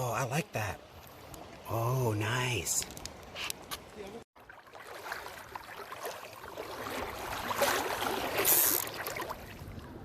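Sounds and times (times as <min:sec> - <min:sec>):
water rushing and splashing: 0:00.0 - 0:10.0.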